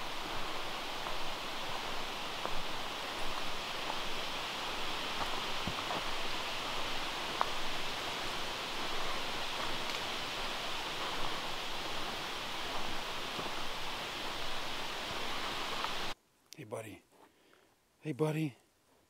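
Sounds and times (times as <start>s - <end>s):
leafy forest rustling hiss: 0.0s - 19.0s.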